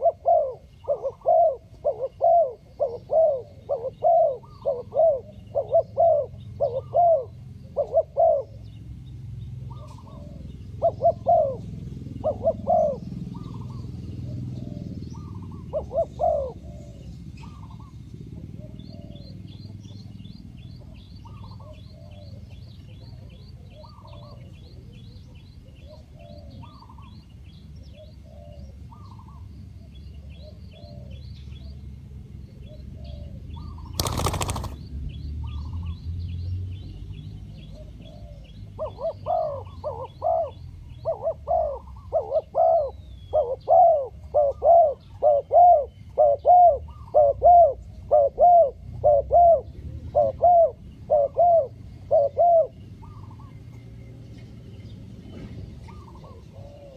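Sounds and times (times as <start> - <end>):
dove cooing: 0.0 - 8.8, 9.6 - 27.1, 27.8 - 34.8, 37.6 - 53.6, 55.8 - 56.9.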